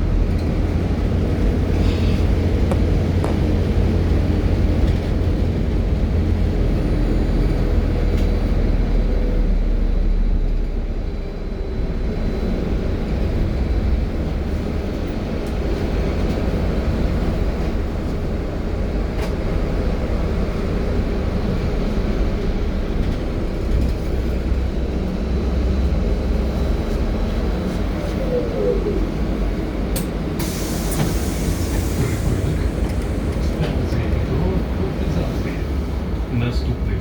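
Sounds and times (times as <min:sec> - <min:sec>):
trolleybus rumble on road: 0:00.0 - 0:37.0.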